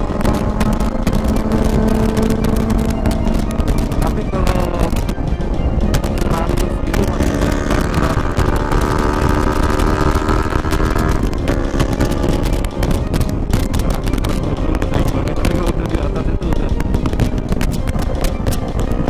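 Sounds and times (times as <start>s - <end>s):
motorcycle engines running: 0.0s - 19.0s
wind buffeting microphone: 0.0s - 19.0s.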